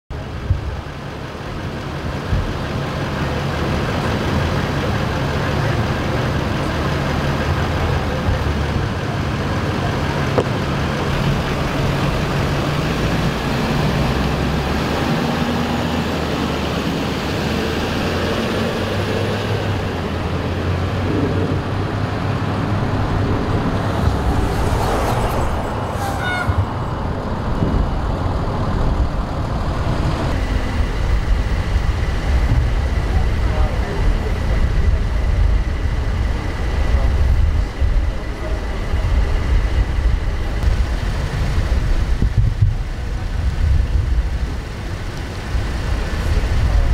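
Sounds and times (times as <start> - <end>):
diesel truck engine idling: 0.1 - 46.9.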